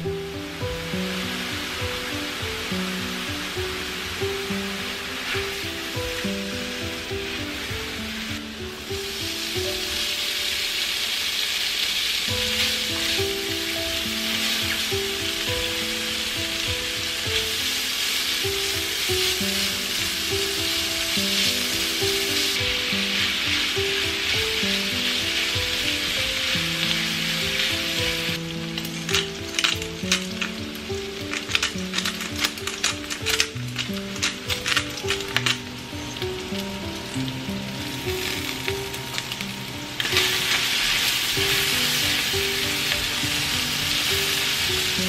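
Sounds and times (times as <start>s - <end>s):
bacon sizzling in a pan: 0.0s - 45.0s
crackling pops: 1.1s - 45.0s.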